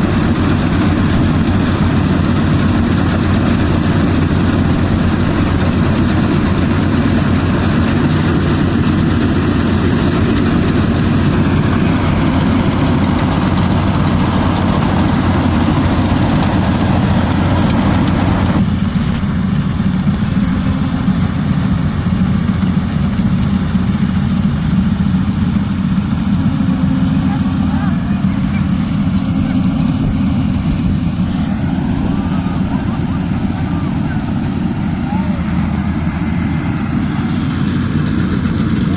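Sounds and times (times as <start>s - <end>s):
diesel engine low hum: 0.0s - 38.9s.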